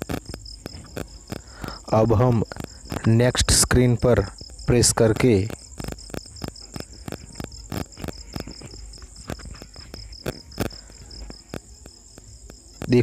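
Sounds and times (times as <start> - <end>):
crickets chirping: 0.0 - 13.0
sharp clicks: 0.0 - 13.0.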